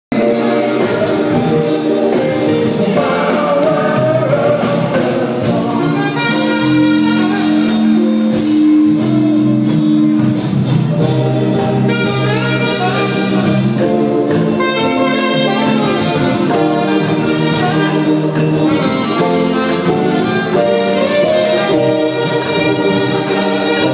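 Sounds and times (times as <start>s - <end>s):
band accompaniment: 0.1s - 23.9s
saxophone playing calypso melody: 0.1s - 23.9s.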